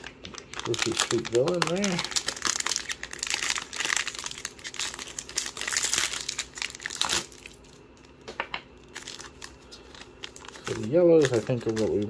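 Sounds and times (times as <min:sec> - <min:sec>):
foil wrapper crinkling: 0:00.0 - 0:08.2, 0:08.8 - 0:12.0.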